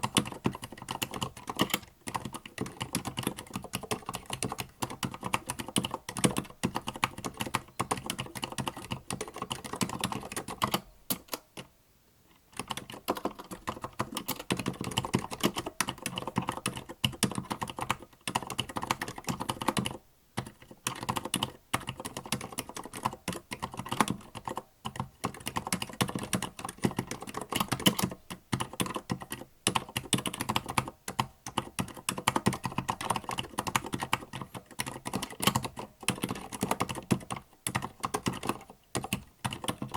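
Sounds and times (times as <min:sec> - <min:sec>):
quiet keyboard typing: 0:00.0 - 0:11.7, 0:12.3 - 0:39.9.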